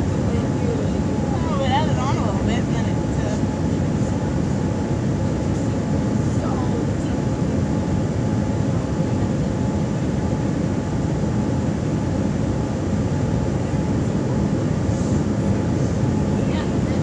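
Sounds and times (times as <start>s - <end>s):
jet engine and airflow noise: 0.0s - 17.0s.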